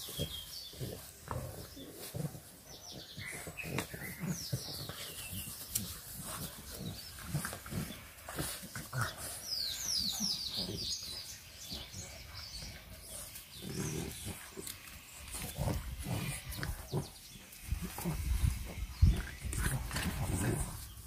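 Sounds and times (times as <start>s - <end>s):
puppies making low vocal sounds: 0.0s - 21.0s.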